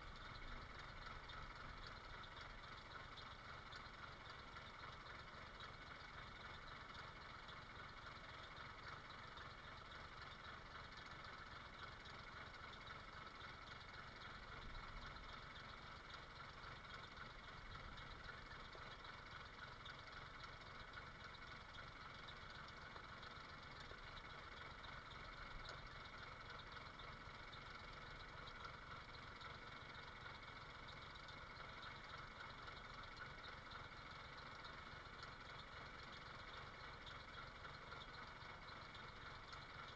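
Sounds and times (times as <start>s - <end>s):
faint engine hum: 0.0s - 39.9s.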